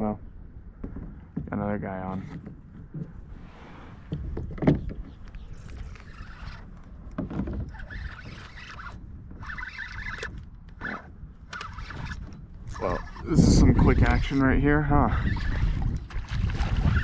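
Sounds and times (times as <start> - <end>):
fishing rod and kayak handling: 0.8 - 17.0.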